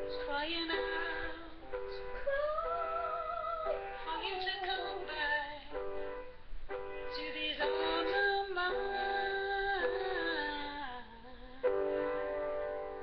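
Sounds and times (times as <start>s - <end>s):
woman singing slow melody: 0.0s - 5.9s, 7.1s - 12.1s.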